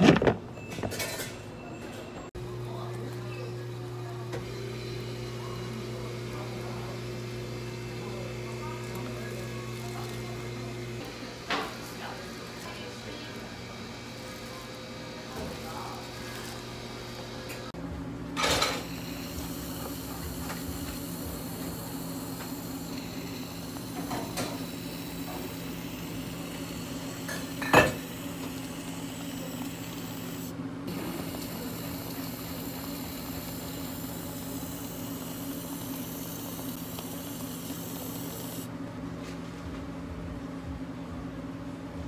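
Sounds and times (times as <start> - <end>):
cafe equipment hum: 0.0 - 1.4, 2.3 - 42.0.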